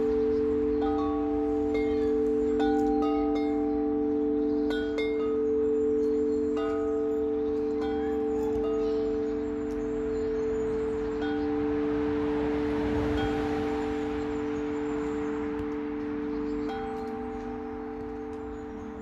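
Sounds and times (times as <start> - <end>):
metal tubular wind chime ringing: 0.0 - 19.0.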